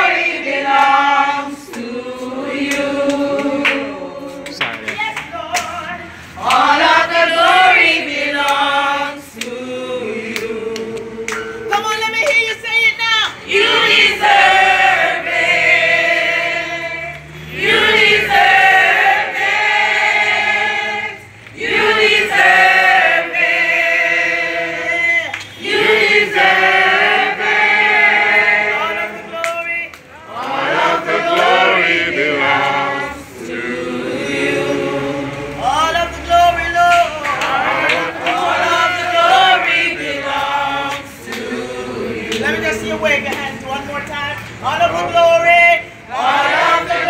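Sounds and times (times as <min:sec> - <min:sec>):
group singing worship song: 0:00.0 - 0:11.8, 0:13.4 - 0:43.6, 0:45.6 - 0:47.0.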